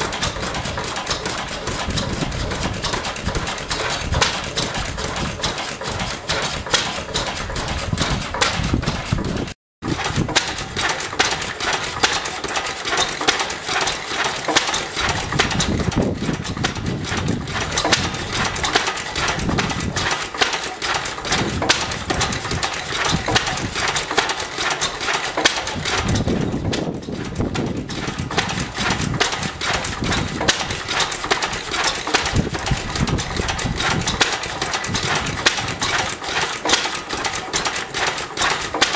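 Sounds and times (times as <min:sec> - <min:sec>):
stationary engines clattering: 0:00.0 - 0:38.9.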